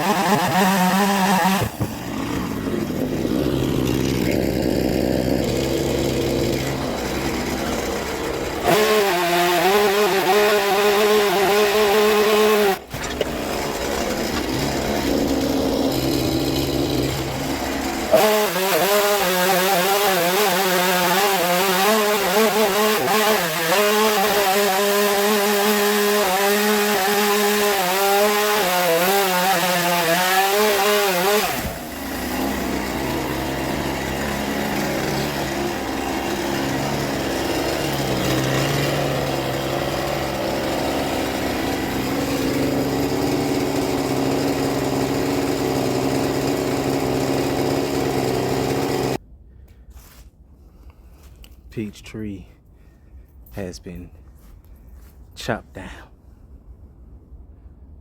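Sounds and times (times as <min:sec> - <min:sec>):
chainsaw cutting wood: 0:00.0 - 0:49.2.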